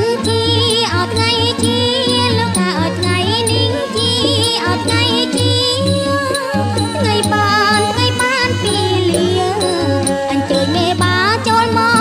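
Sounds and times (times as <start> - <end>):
wavering melody: 0.0 - 12.0.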